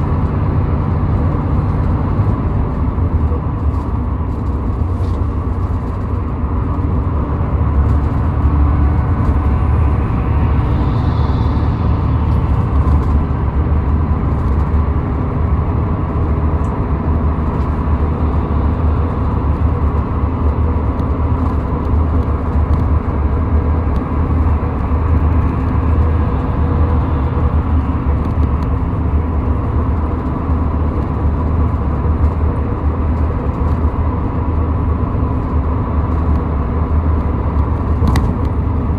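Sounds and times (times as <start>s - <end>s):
car driving on highway: 0.0s - 38.9s.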